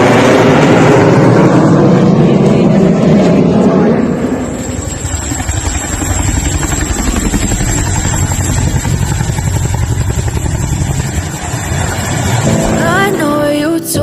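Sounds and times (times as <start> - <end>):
helicopter rotor blades: 0.0 - 13.4.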